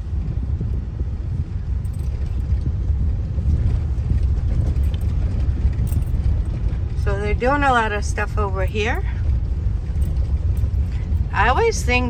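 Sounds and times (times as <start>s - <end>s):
tyre and road noise: 0.0s - 12.0s.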